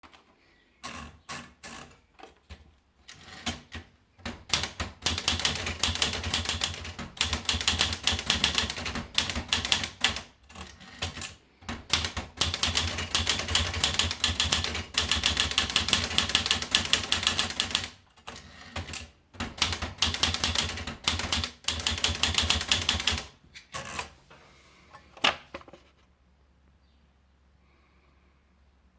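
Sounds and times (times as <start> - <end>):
manual typewriter keystrokes: 0.8 - 24.1.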